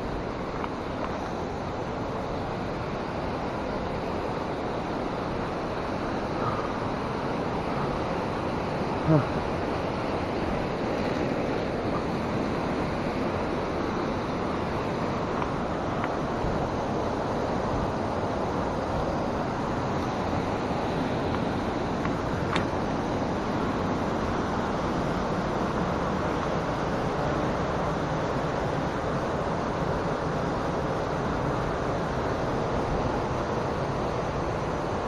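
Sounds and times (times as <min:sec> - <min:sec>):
fast-flowing stream rushing: 0:00.0 - 0:35.0.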